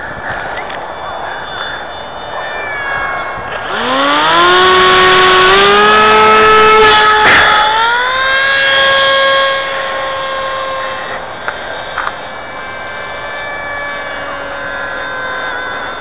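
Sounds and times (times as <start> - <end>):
model plane electric motor whine: 0.0 - 16.0.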